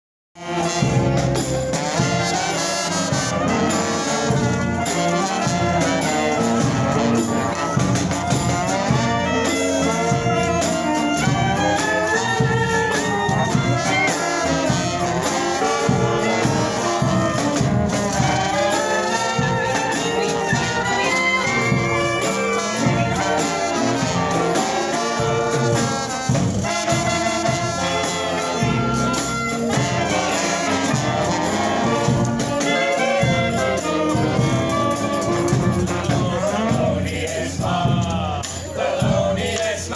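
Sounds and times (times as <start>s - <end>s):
brass band playing: 0.4s - 39.9s.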